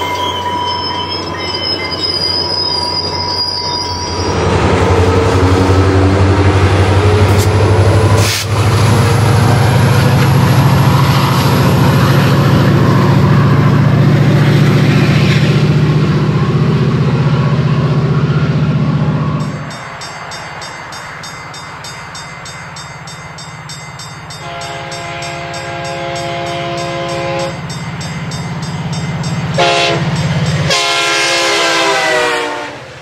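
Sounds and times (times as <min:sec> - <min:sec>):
steel train wheels squealing: 0:00.0 - 0:06.1, 0:07.2 - 0:31.1
diesel locomotive engine droning: 0:00.0 - 0:33.0
rail noise: 0:00.0 - 0:33.0.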